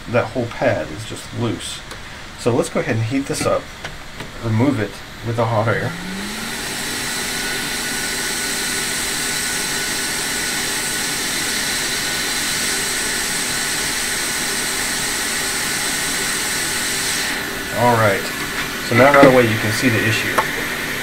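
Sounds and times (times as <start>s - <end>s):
fan hum: 0.0s - 21.0s
hot air blower rushing: 0.0s - 21.0s.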